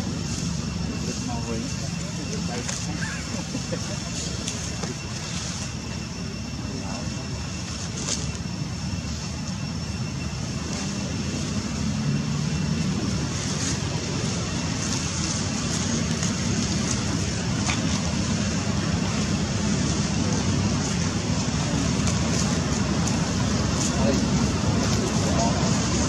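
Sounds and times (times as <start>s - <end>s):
faint high steady whine: 0.0s - 26.0s.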